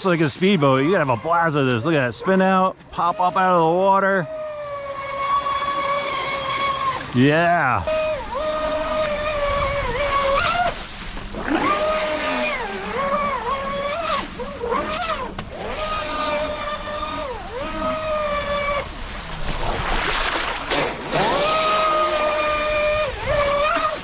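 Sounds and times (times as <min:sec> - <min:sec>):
rc boat motor whining: 0:00.0 - 0:24.0.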